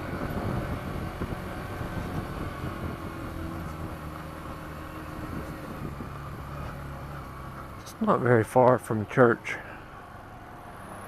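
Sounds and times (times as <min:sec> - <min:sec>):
motorcycle engine running: 0:00.0 - 0:09.2
wind and road noise: 0:00.0 - 0:11.0.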